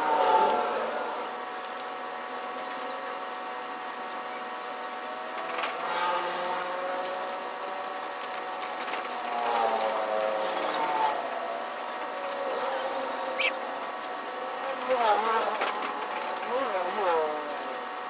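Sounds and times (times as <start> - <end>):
transfer sheet crackling and rustling: 1.5 - 18.0.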